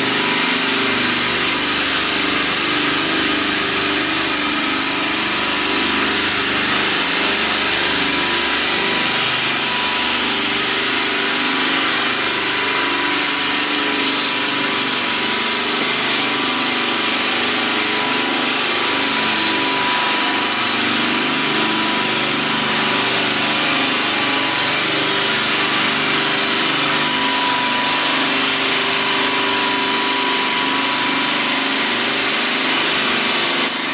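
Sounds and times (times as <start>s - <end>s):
stone polishing machine grinding: 0.0s - 33.9s.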